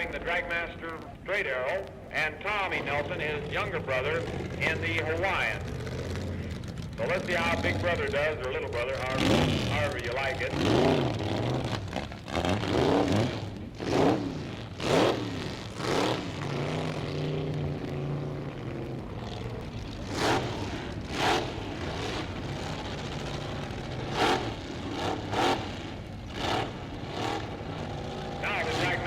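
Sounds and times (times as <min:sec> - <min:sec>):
drag racing engines revving: 0:00.0 - 0:29.0.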